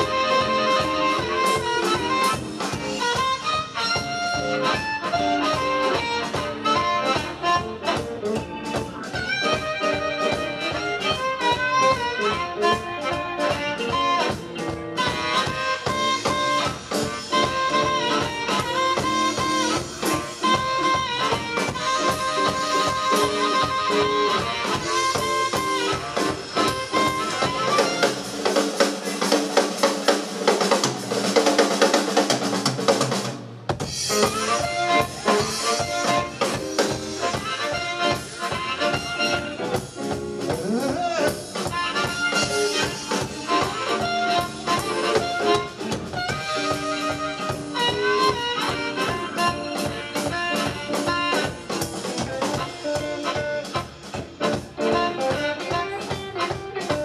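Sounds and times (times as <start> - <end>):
amplified harmonica: 0.0 - 31.8, 33.8 - 57.0
live blues band playing: 0.0 - 57.0.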